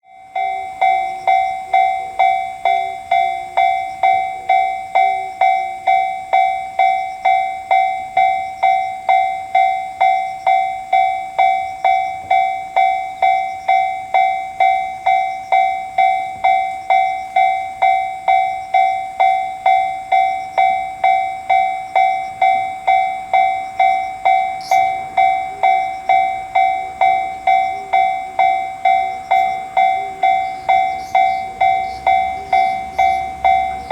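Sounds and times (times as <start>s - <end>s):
level crossing alarm clanging: 0.0s - 33.9s.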